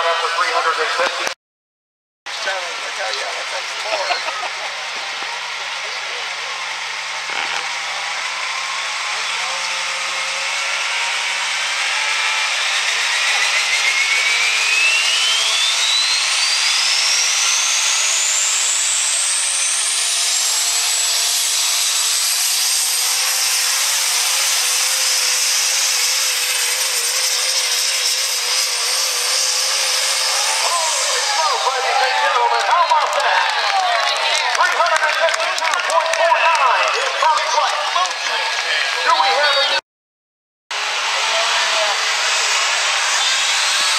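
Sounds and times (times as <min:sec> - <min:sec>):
diesel truck engine at full throttle: 0:02.3 - 0:39.8, 0:40.8 - 0:43.9
turbocharger whine: 0:02.3 - 0:39.8, 0:40.7 - 0:43.9.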